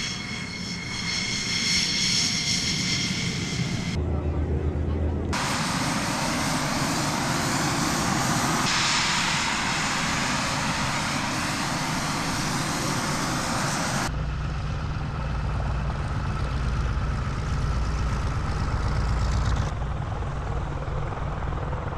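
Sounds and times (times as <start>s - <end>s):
jet engines roaring: 0.0s - 21.9s
piston engines rumbling: 0.0s - 21.9s.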